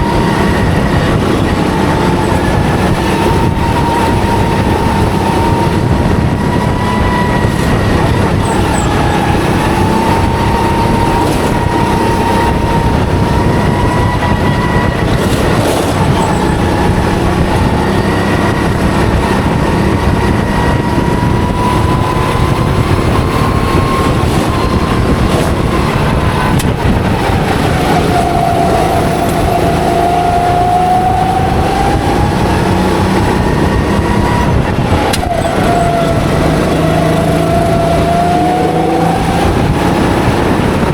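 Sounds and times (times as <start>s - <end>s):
go-kart engine at high revs: 0.0s - 40.9s.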